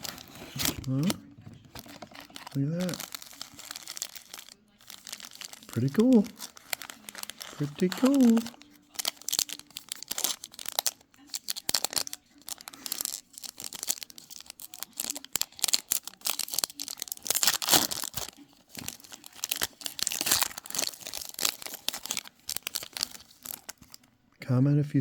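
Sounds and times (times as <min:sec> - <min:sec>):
cards rustling: 0:00.0 - 0:24.1
foil wrappers crinkling and tearing: 0:00.0 - 0:24.1.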